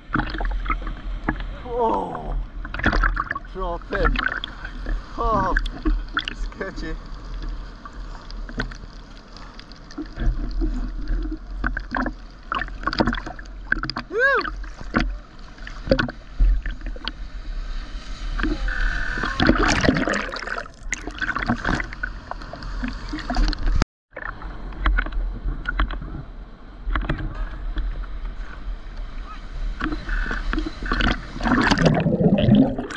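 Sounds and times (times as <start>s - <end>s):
water sloshing and splashing: 0.0s - 32.9s.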